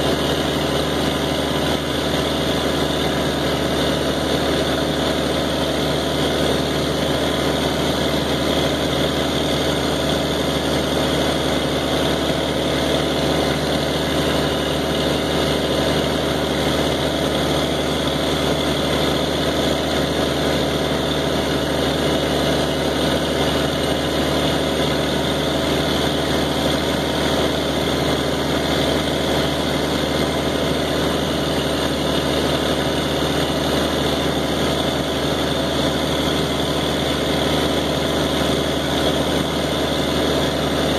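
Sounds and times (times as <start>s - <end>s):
engine driving pressure pump: 0.0s - 40.9s.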